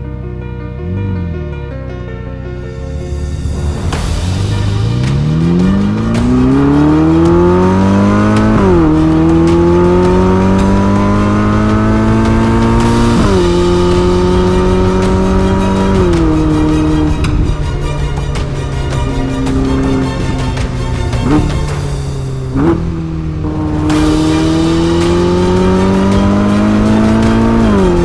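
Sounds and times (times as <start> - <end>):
car engine revving through gears: 3.6 - 28.0.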